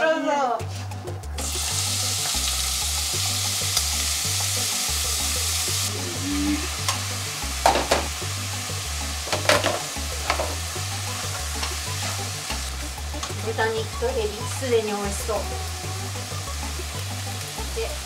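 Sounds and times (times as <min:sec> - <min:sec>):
background music with bassline: 0:00.0 - 0:18.0
food sizzling in a pan: 0:00.6 - 0:18.0.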